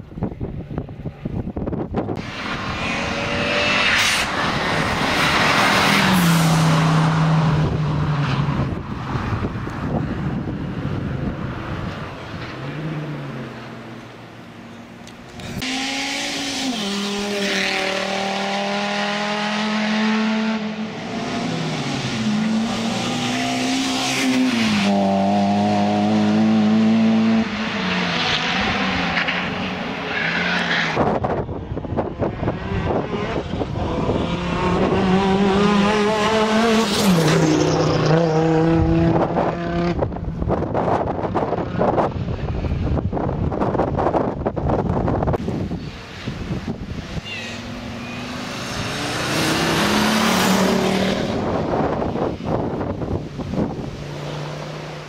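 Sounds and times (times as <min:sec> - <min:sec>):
rally car engine at full throttle: 0:00.0 - 0:55.0.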